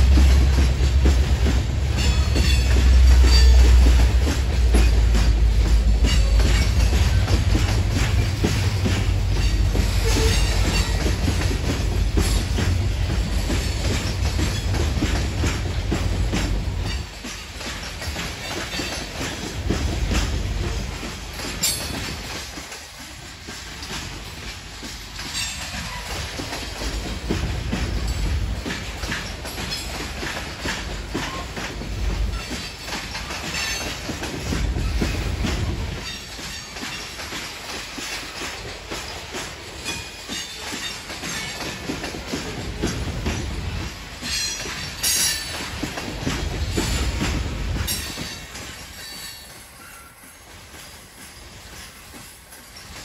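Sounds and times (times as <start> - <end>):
freight train wheels rumbling: 0.0 - 53.0
wheels clacking over rail joints: 0.0 - 53.0.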